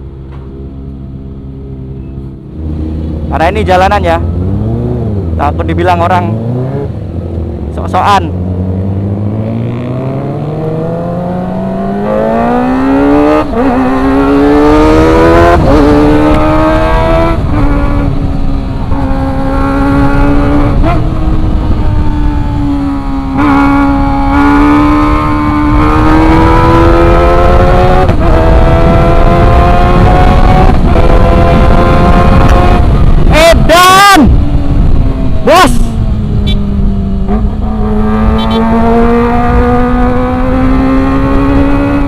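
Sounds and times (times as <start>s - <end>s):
motorcycle engine at high revs: 4.0s - 42.0s.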